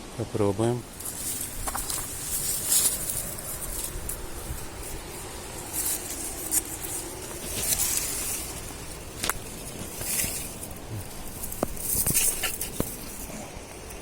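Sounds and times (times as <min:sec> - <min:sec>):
clothing rustling on microphone: 0:00.8 - 0:14.0.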